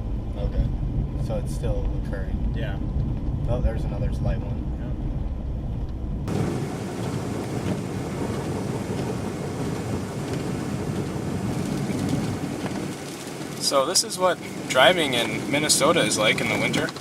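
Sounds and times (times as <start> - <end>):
low rumble: 0.0 - 16.8
strong blizzard wind: 2.3 - 17.0.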